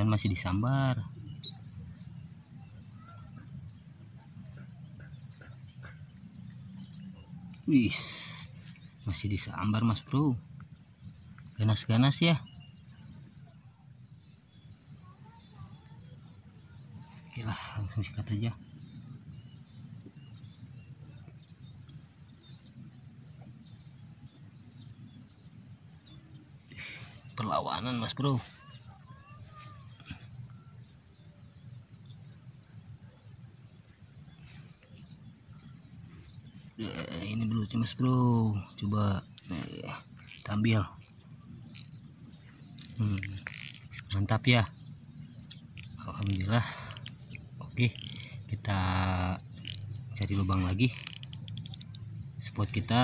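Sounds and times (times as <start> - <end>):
faint bird chirps: 0.0 - 53.0
insects buzzing: 0.0 - 53.0.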